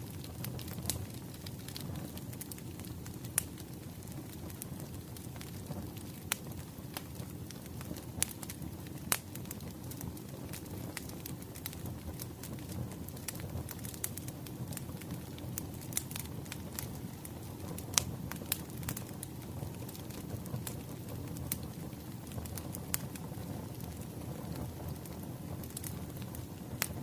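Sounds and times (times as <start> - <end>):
fire crackles and pops: 0.0 - 27.0
wood fire burning: 0.0 - 27.0.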